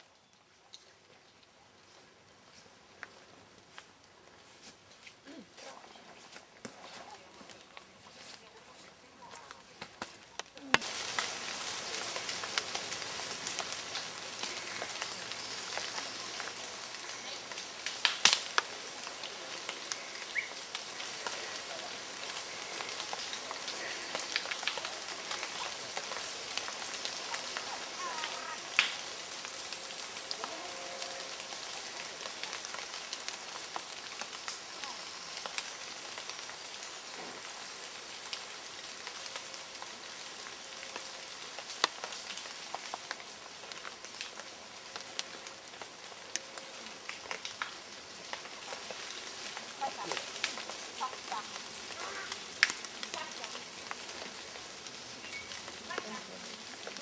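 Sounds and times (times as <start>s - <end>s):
steady outdoor hiss: 0.0s - 57.0s
scattered ticks and crackles: 0.1s - 57.0s.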